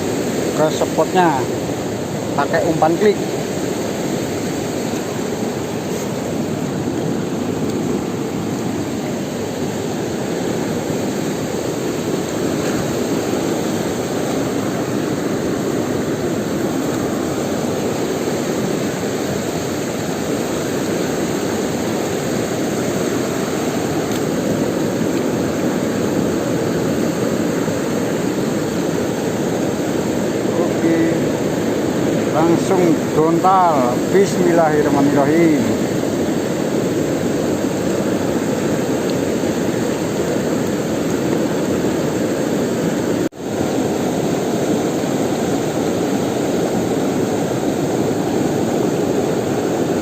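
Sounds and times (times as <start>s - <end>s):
river rushing: 0.0s - 50.0s.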